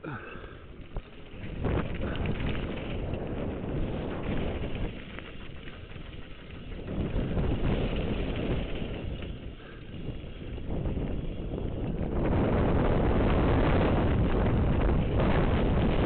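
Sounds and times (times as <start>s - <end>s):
bike rattle: 0.0s - 16.0s
bike tyres crunching on gravel: 0.4s - 16.0s
wind rushing on microphone: 0.8s - 16.0s.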